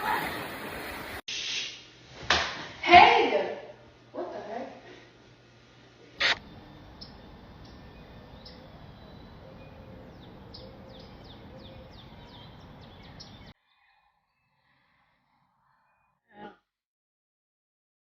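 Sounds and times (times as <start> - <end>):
outdoor background noise: 0.0 - 15.7.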